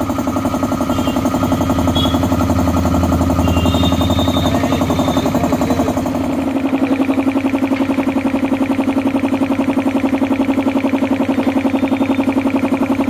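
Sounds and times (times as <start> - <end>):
air compressor chugging: 0.0 - 13.0.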